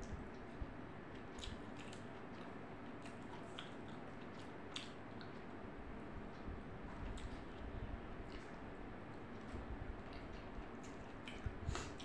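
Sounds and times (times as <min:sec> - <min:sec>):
person chewing food: 0:00.2 - 0:05.7, 0:06.3 - 0:12.0.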